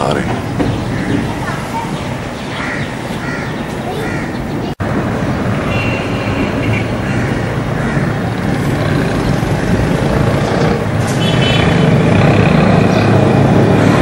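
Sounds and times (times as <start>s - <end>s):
urban traffic rumble: 0.0s - 14.0s.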